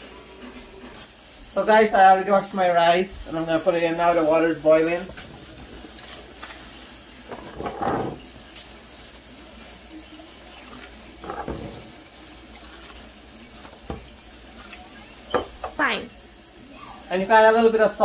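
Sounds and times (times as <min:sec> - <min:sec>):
boiling water bubbling: 0:01.0 - 0:18.0.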